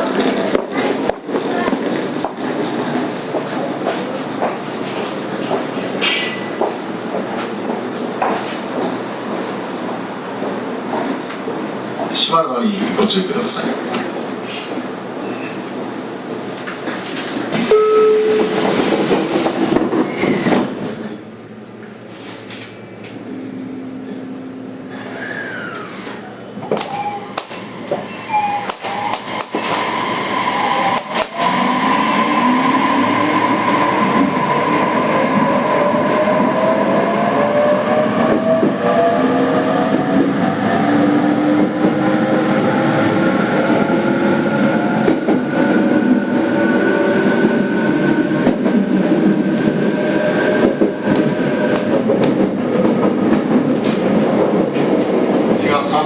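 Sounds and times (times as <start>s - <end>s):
train wheel and running noise: 0.0s - 32.0s, 33.6s - 56.0s.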